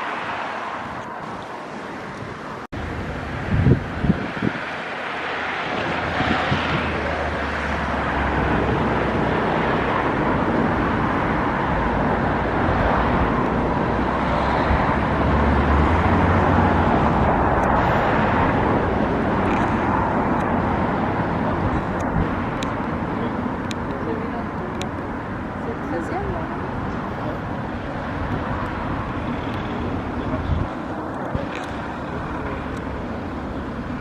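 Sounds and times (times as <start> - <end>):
heavy vehicle passing: 0.0 - 34.0
rumble of motor traffic: 0.0 - 34.0.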